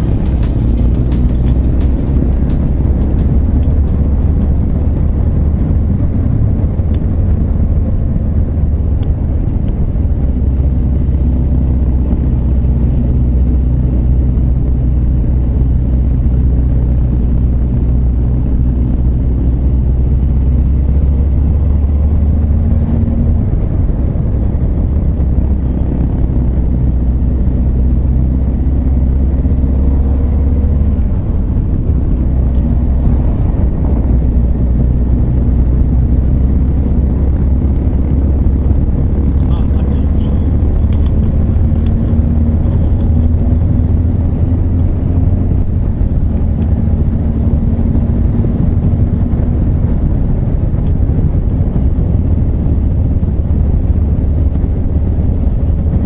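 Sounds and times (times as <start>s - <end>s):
motorcycle engine cruising: 0.0s - 56.0s
road noise: 0.0s - 56.0s
wind noise: 0.0s - 56.0s.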